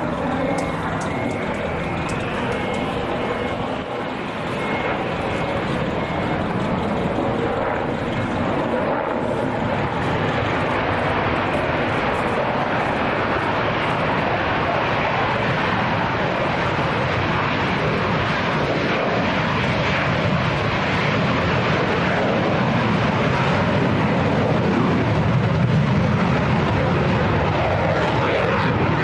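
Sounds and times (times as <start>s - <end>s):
jet aircraft engines roaring: 0.0s - 29.0s.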